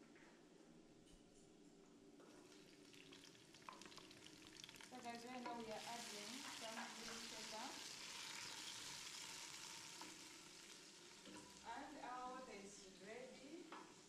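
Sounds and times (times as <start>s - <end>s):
vegetables sizzling in hot oil: 2.4s - 13.8s.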